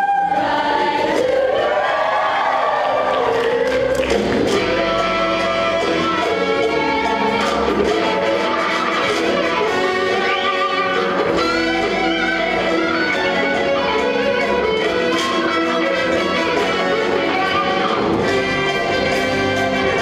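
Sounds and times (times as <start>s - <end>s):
band playing orchestral music: 3.4s - 20.0s.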